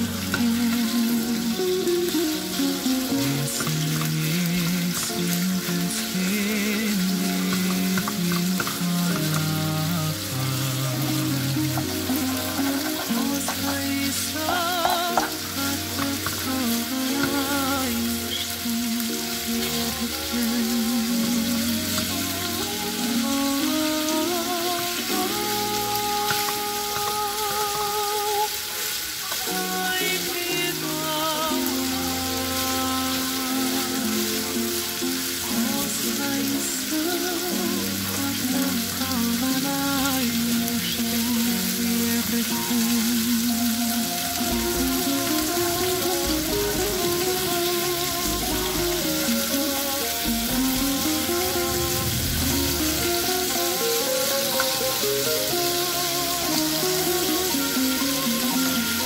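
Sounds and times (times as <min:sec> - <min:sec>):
meat sizzling in frying pan: 0:00.0 - 0:59.0
vibrato melody music: 0:00.0 - 0:59.0.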